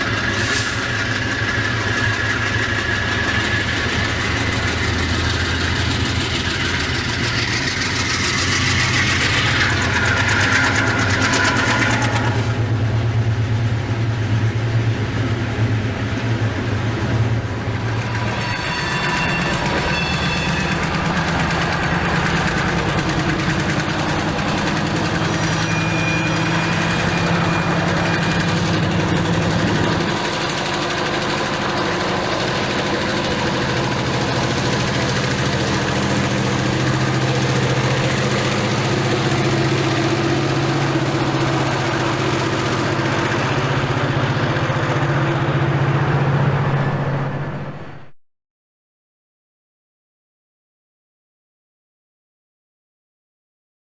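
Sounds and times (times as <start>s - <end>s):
locomotive engine droning: 0.0s - 48.1s.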